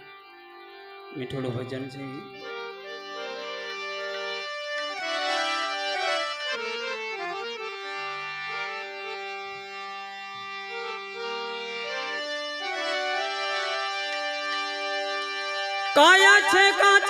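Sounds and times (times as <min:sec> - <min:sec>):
harmonium playing: 0:00.0 - 0:17.0.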